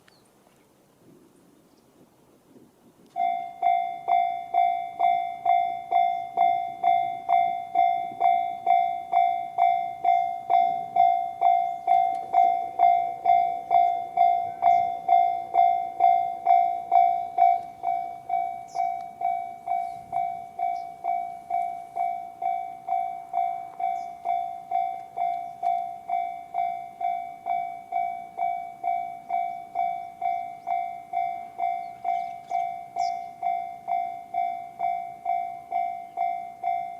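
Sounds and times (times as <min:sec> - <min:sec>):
level crossing electronic bell: 0:03.2 - 0:36.9.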